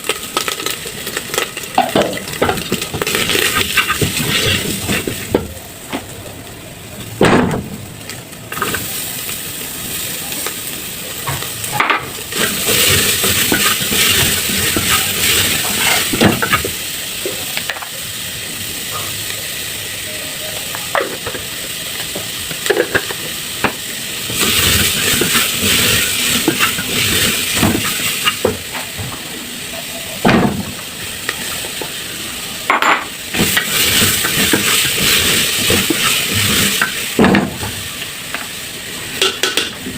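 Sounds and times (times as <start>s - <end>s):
food sizzling in a pot: 0.0s - 39.9s.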